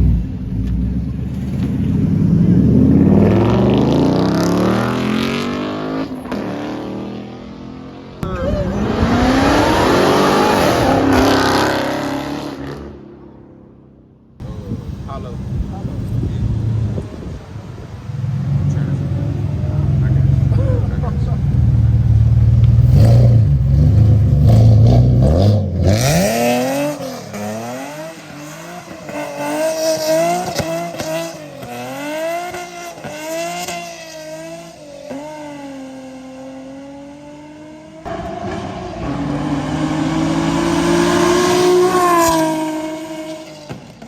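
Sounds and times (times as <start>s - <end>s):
car engine revving: 0.0s - 13.9s, 14.5s - 44.0s.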